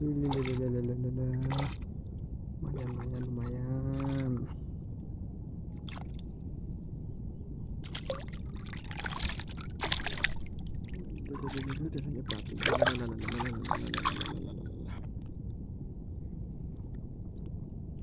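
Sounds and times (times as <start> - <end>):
water splashing and sloshing: 0.0 - 4.7, 5.6 - 15.8
low rushing background: 0.0 - 8.7, 9.6 - 18.0.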